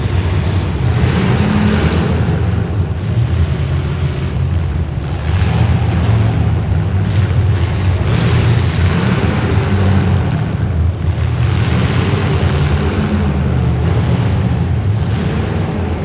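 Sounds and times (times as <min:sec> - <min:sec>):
car engines running rough: 0:00.0 - 0:16.0.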